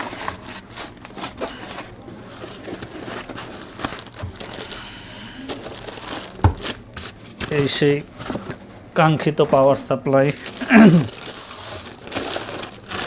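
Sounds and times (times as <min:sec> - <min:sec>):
plastic packaging crinkling: 0:00.0 - 0:08.4, 0:09.4 - 0:13.0.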